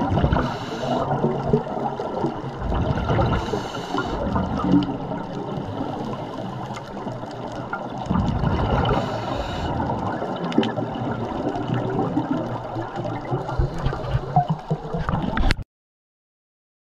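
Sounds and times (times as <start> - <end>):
underwater bubbling and gurgling: 0.0 - 15.6.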